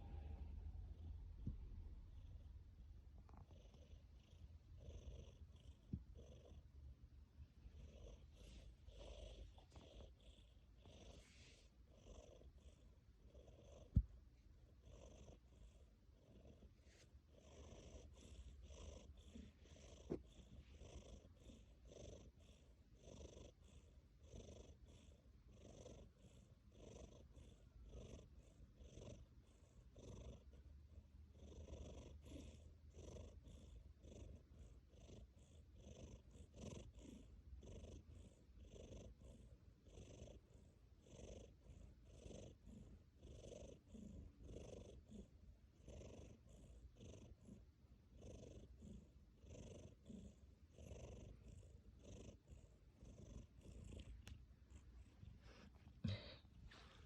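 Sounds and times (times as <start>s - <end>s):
cat purring faintly: 0.0s - 57.0s.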